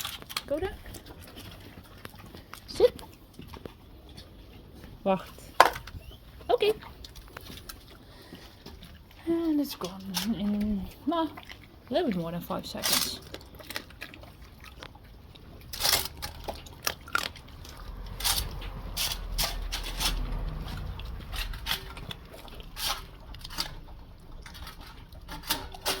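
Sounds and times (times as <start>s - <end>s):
dogs chewing and licking: 0.0s - 26.0s.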